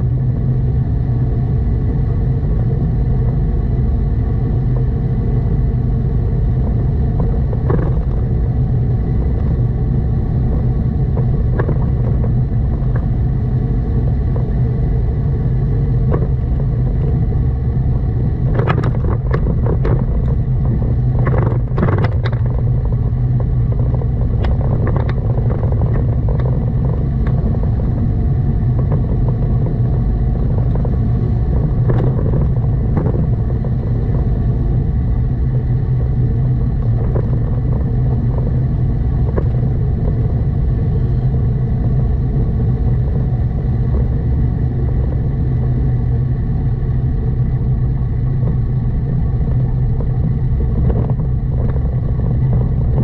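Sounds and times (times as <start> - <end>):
car driving rumble: 0.0 - 53.0.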